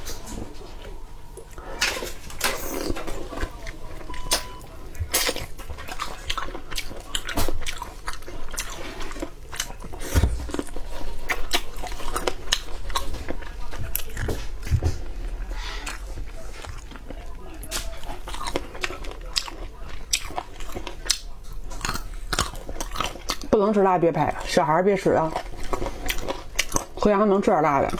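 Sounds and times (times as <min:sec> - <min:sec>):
biting and chewing: 0:00.0 - 0:27.9.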